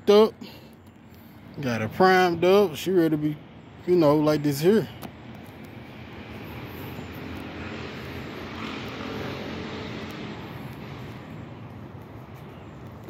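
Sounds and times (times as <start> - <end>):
distant engine drone: 0.0 - 13.0.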